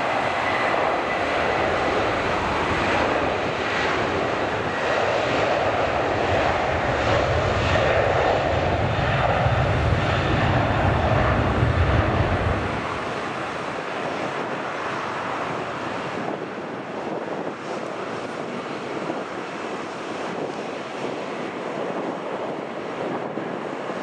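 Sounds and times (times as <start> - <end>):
jet engines deep rumble: 0.0 - 24.0
wind on microphone: 0.0 - 24.0.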